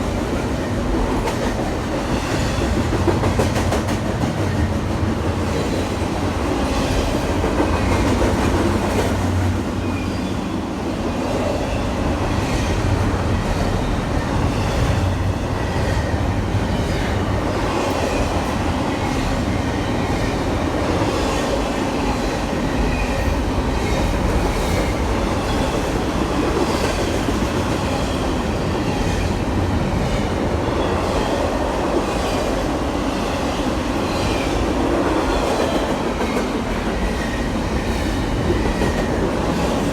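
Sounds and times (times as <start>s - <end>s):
train rolling past: 0.0s - 39.9s.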